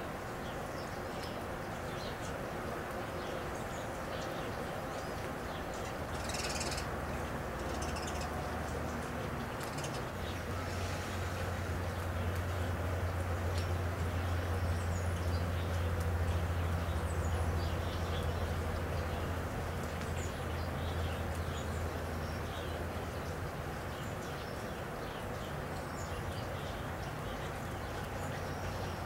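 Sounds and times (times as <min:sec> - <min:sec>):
rain hissing: 0:00.0 - 0:29.0
birds chirping: 0:00.3 - 0:29.0.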